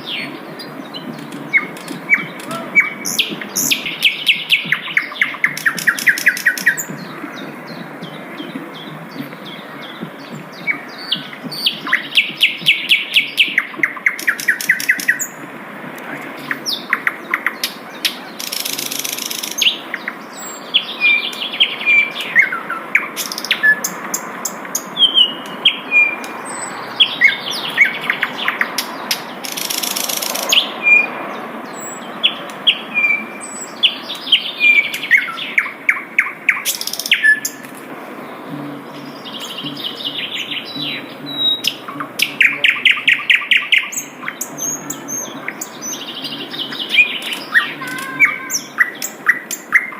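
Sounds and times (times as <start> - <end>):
bird trilling and chirping: 0.0 - 15.4, 16.4 - 37.7, 38.4 - 49.9.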